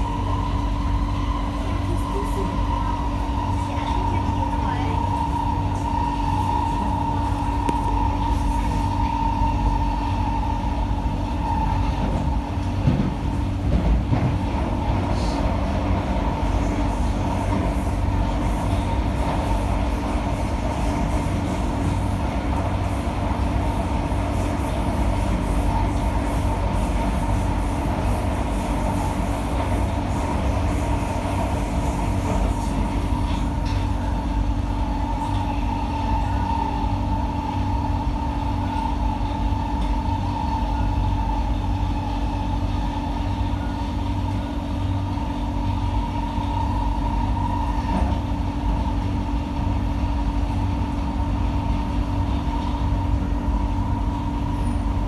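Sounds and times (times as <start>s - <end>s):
train wheel and track rumble: 0.0s - 55.0s.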